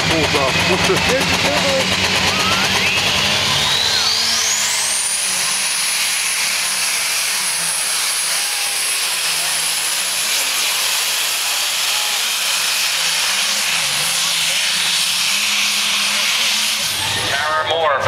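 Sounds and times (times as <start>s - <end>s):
high turbo whine: 0.0s - 18.0s
tractor engine under full power: 0.0s - 18.0s.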